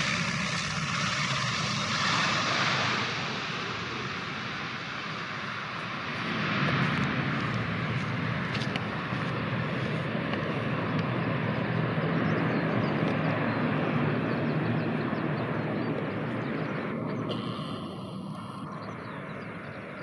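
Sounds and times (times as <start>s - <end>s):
turboprop engines running: 0.0s - 20.0s.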